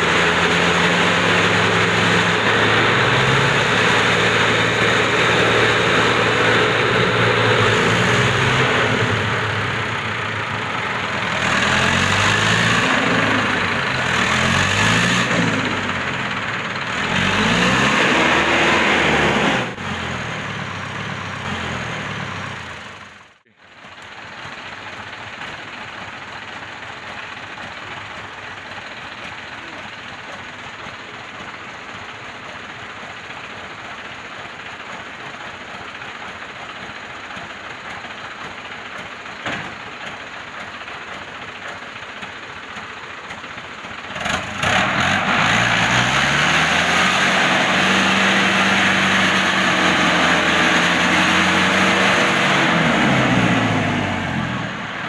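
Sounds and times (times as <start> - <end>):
diesel truck engine idling and revving: 0.0 - 55.0.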